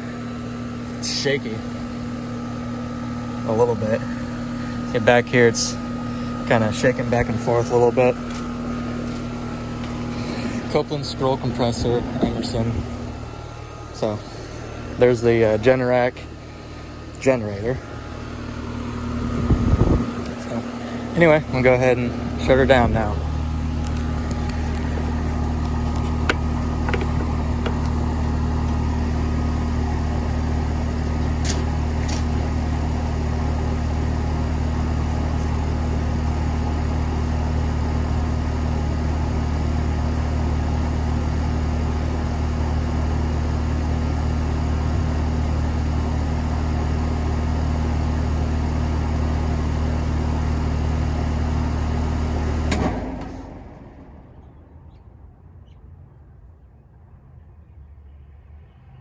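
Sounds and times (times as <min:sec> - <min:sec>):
air conditioner unit humming: 0:00.0 - 0:54.8.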